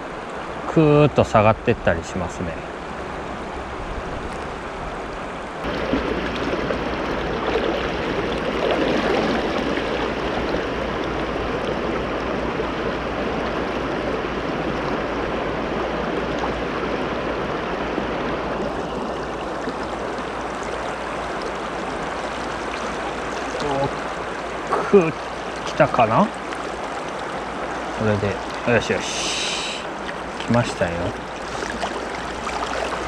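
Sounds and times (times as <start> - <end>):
river rushing over stones: 0.0 - 33.0.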